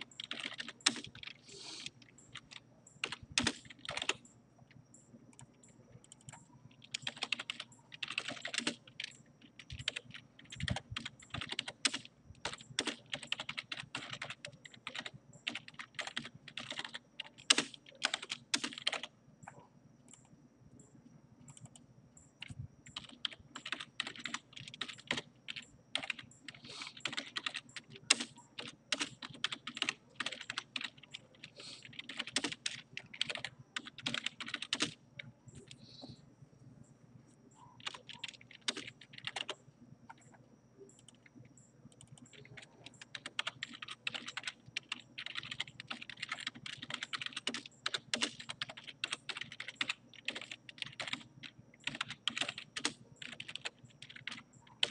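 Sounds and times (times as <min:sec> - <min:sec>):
typing on keyboard: 0:00.0 - 0:20.3, 0:21.4 - 0:35.8, 0:37.7 - 0:54.9.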